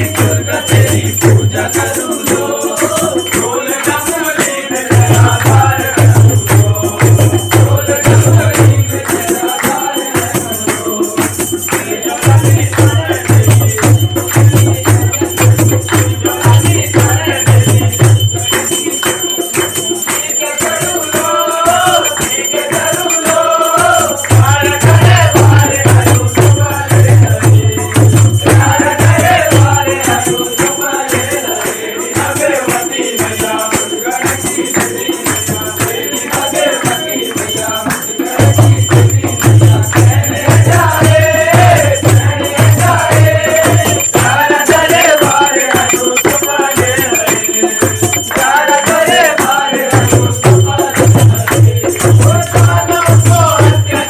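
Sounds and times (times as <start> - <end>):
group of men singing: 0.0 - 54.0
hand drum beat: 0.0 - 54.0
hand-clapping: 0.0 - 54.0.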